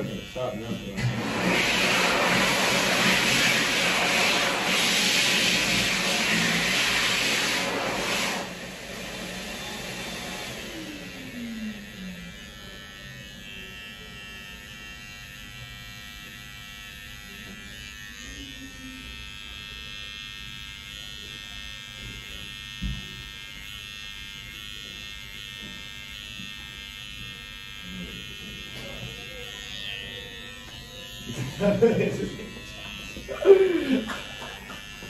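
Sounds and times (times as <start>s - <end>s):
electric hair trimmer buzzing: 0.0s - 35.0s.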